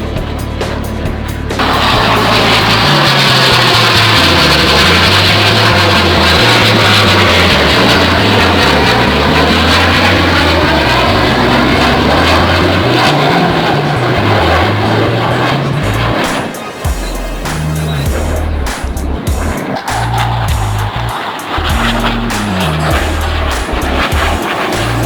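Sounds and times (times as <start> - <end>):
background music bass line: 0.0 - 25.0
military aircraft flying past: 0.0 - 25.0.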